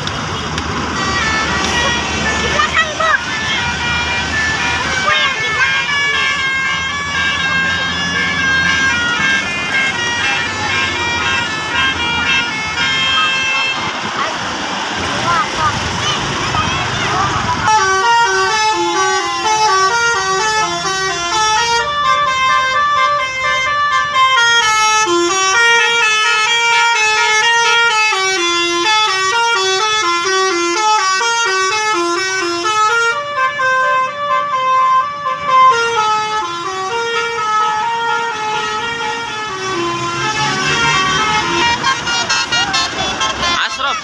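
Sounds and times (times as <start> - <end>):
musical bus air horn: 0.3 - 14.4, 15.2 - 44.0.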